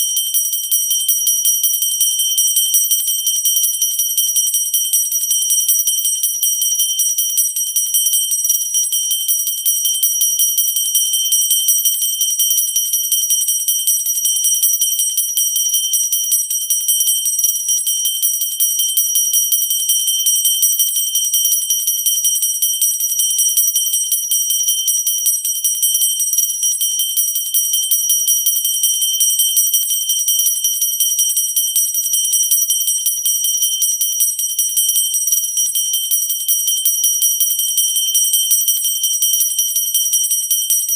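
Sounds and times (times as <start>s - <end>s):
handbell ringing: 0.0s - 40.9s.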